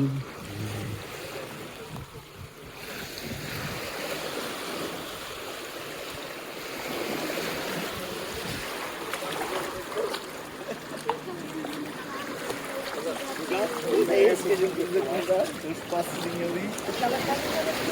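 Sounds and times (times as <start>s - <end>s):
sea surf washing onto beach: 0.0s - 17.9s.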